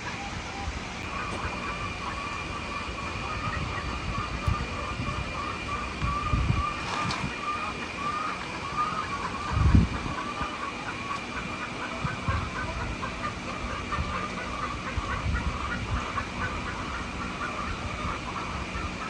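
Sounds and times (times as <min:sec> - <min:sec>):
hens calling: 0:00.0 - 0:19.0.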